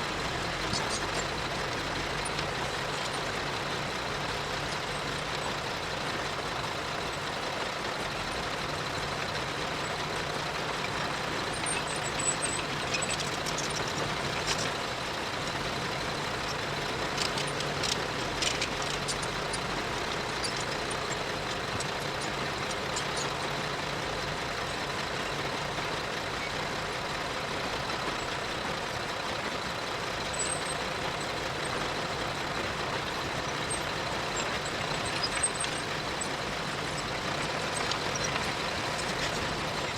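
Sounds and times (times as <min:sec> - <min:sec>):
earthmoving machinery engine drone: 0:00.0 - 0:39.9.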